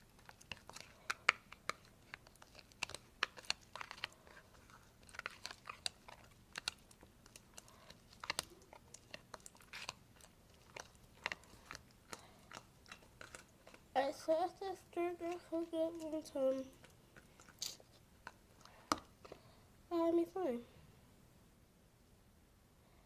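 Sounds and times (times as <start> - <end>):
slime squelching and clicking: 0.0 - 19.4.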